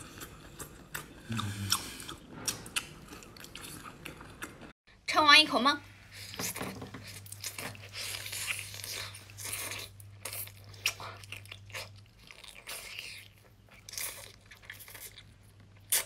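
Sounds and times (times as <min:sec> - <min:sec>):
wet chewing and sucking: 0:00.0 - 0:04.7, 0:06.1 - 0:16.0.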